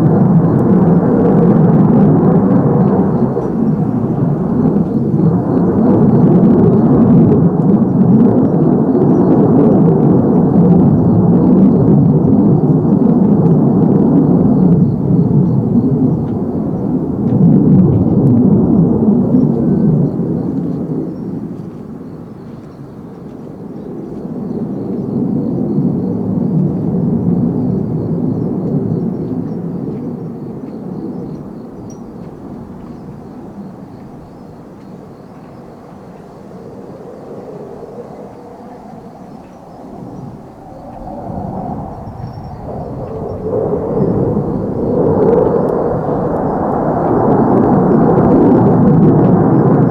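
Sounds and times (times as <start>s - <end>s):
jet fighter engine rumble: 0.0s - 49.9s.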